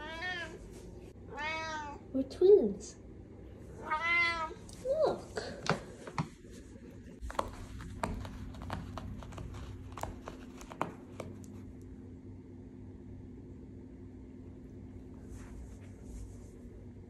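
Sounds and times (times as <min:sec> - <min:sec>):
quiet room hum: 0:00.0 - 0:17.0.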